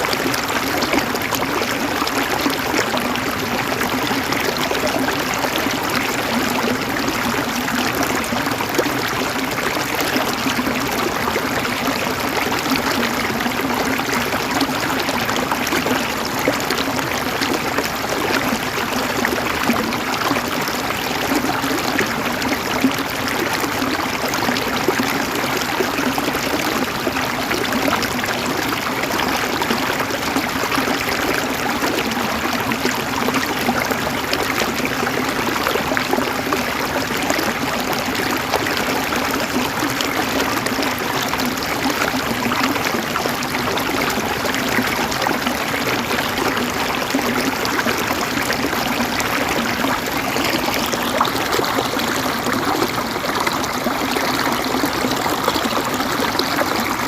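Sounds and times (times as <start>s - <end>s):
river water gurgling over stones: 0.0s - 57.0s.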